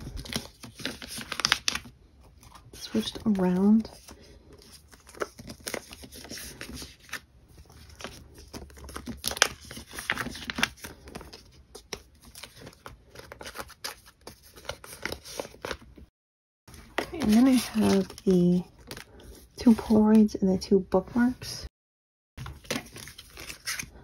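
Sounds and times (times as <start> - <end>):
plastic binder pages crinkling: 0.0 - 16.1, 16.7 - 20.3, 22.4 - 24.0.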